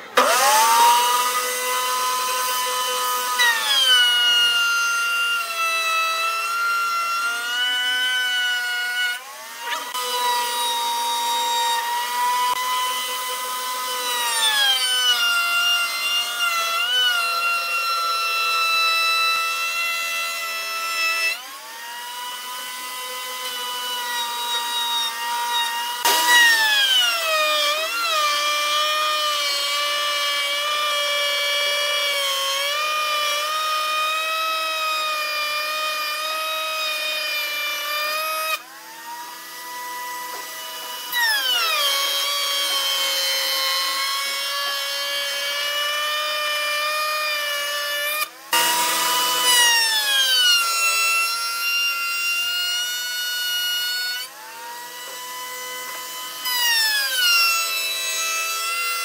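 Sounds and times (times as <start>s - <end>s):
router bit cutting wood: 0.0s - 59.0s
router motor whine: 0.0s - 59.0s.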